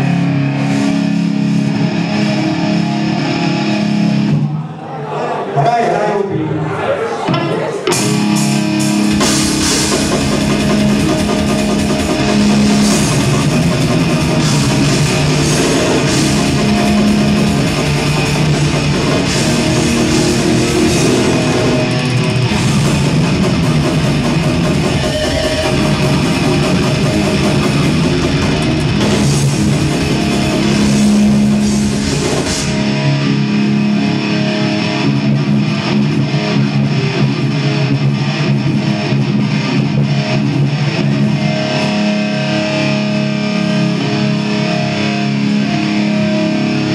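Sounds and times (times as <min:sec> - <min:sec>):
live heavy metal band: 0:00.0 - 0:04.6, 0:07.3 - 0:46.9.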